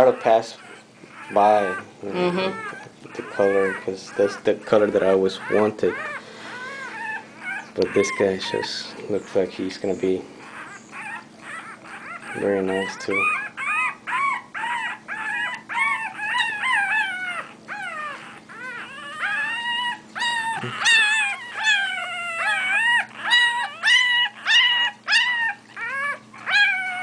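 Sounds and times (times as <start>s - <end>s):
puppy whining: 0.0s - 27.0s.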